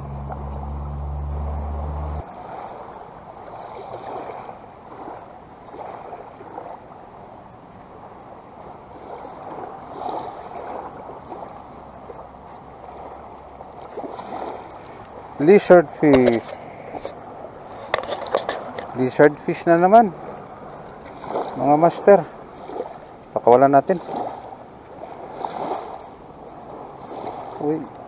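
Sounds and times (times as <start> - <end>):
small waves lapping at shore: 0.0 - 28.0.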